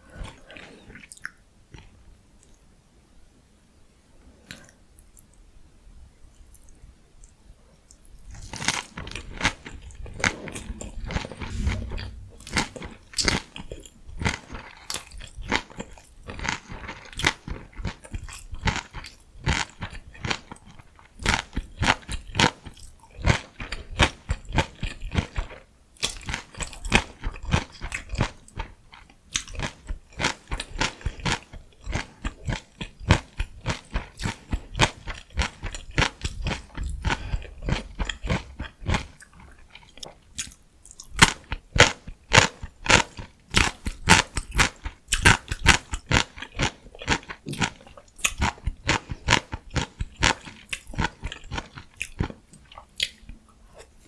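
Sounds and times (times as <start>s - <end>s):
chewing crunchy vegetables: 6.4s - 54.0s.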